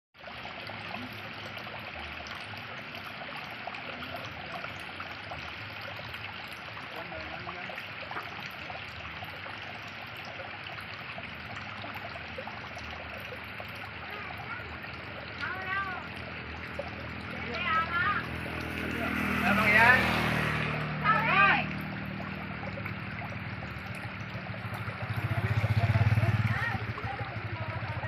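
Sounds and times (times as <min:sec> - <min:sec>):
water dripping: 0:00.2 - 0:28.0
water trickling into a muddy pool: 0:00.2 - 0:28.0.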